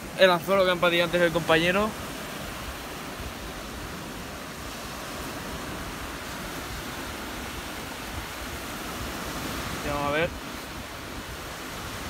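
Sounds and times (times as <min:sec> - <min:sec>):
light wind: 0:00.0 - 0:12.0
sea surf: 0:00.0 - 0:12.0.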